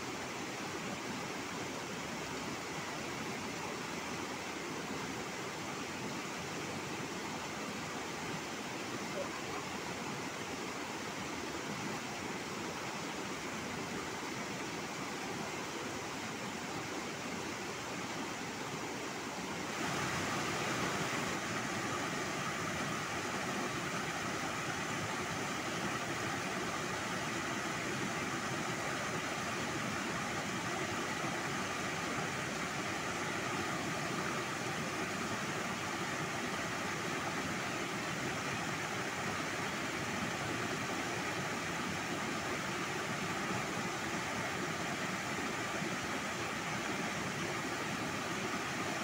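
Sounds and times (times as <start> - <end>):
river rushing over boulders: 0.0 - 49.0.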